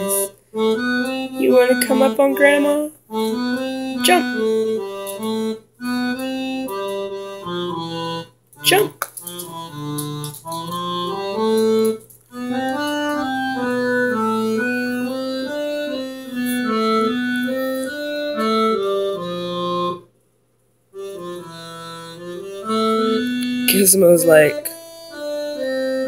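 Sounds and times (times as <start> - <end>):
electronic organ melody: 0.0 - 20.1, 21.0 - 26.0.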